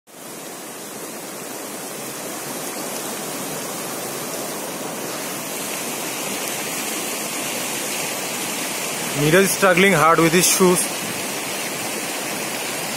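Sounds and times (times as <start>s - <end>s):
stream running over rocks: 0.1s - 12.9s.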